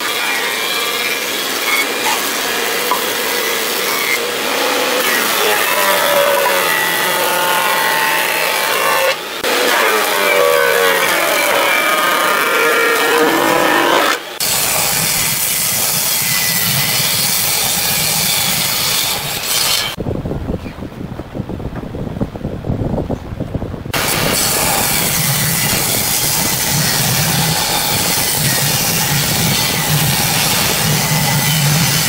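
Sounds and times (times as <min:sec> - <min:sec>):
table saw cutting wood: 0:00.0 - 0:20.0, 0:24.0 - 0:32.0.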